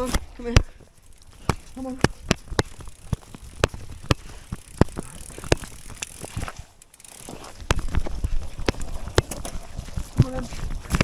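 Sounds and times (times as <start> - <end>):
bike knocks and rattles: 0.0 - 11.0.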